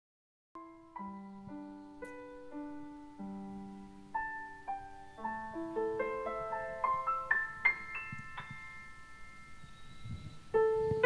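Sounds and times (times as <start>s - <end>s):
piano notes ringing: 0.6s - 11.0s.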